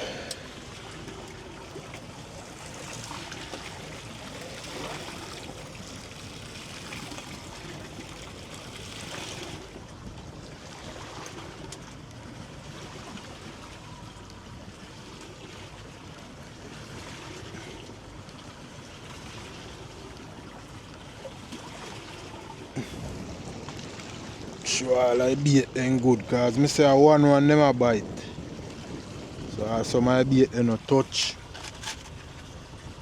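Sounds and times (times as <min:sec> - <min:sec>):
water lapping against boat hull: 0:00.0 - 0:33.0.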